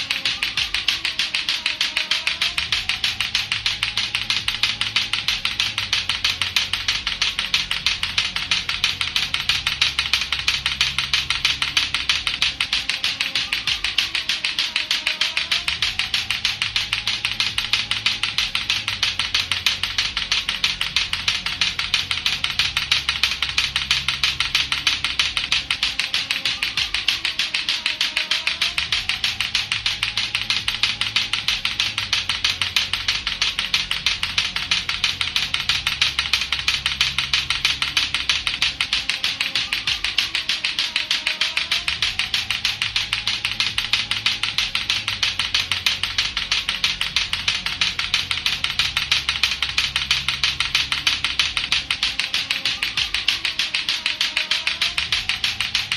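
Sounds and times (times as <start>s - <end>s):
clacker toy balls clacking: 0.0s - 55.9s.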